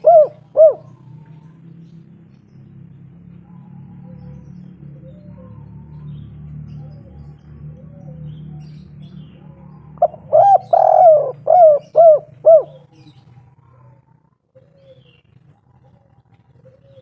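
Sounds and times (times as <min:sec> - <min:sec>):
dove cooing: 0:00.0 - 0:02.0, 0:02.9 - 0:17.0.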